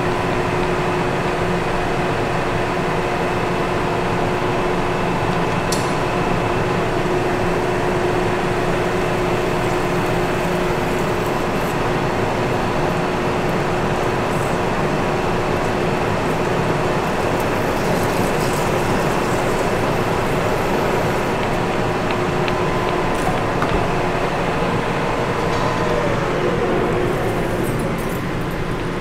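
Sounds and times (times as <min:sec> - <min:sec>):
metal lathe running: 0:00.0 - 0:29.0
coolant pouring: 0:02.6 - 0:29.0.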